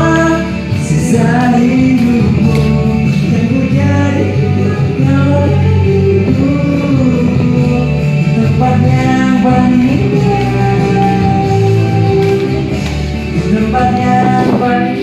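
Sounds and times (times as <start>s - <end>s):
song with singing over guitar: 0.0s - 15.0s.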